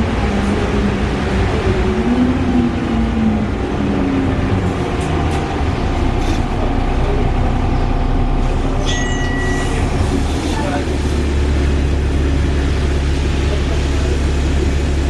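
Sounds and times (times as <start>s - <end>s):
bus engine whirring: 0.0s - 15.0s.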